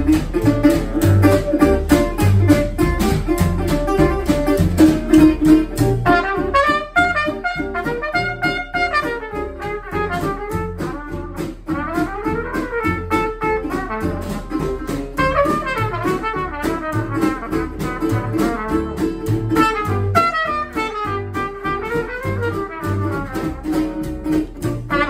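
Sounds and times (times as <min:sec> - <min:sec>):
bass line: 0:00.0 - 0:25.0
cornet melody: 0:00.0 - 0:25.0
strummed guitar chords: 0:00.0 - 0:25.0.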